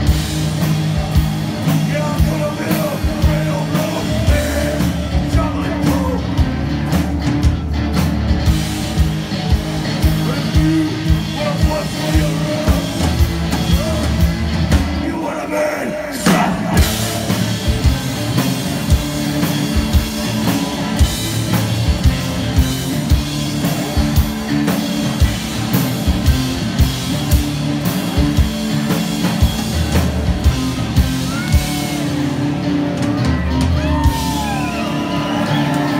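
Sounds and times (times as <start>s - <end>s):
drum kit beat: 0.0s - 15.3s, 16.2s - 35.9s
electric guitar chords: 0.0s - 15.3s, 16.2s - 35.9s.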